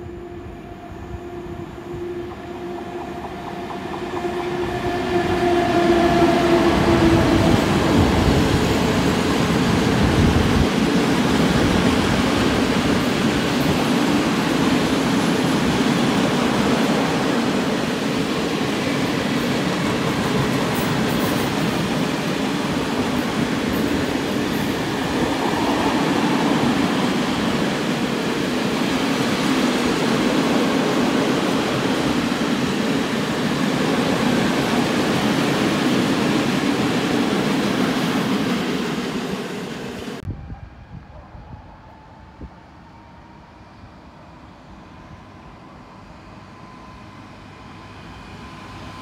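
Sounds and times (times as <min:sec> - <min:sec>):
freight train wheels rumbling: 0:00.0 - 0:41.2.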